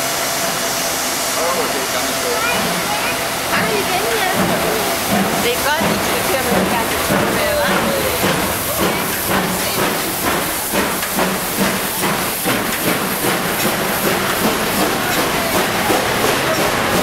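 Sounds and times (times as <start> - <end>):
steam hissing: 0.0 - 17.0
steam locomotive chuffing: 0.0 - 17.0
train coaches rolling past: 0.0 - 17.0.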